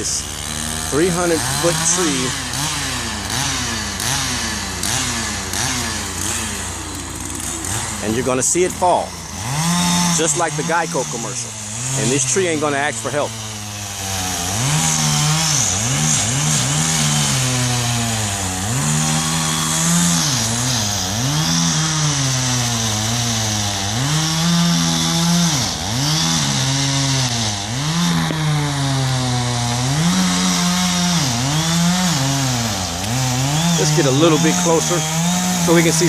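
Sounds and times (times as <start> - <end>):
chainsaw revving: 0.0 - 36.0.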